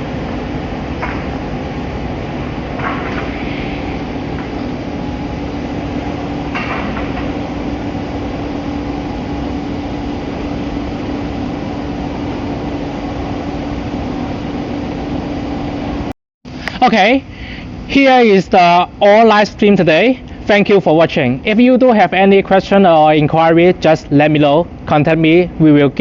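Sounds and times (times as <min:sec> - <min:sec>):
heat pump fan and compressor drone: 0:00.0 - 0:26.0.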